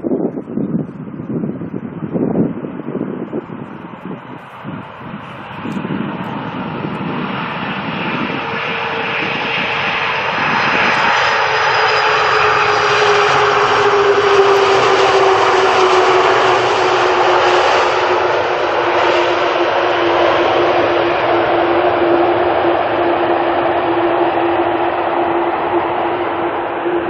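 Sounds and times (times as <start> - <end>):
jet airliner passing: 0.0 - 27.0
wind buffeting microphone: 0.0 - 27.0.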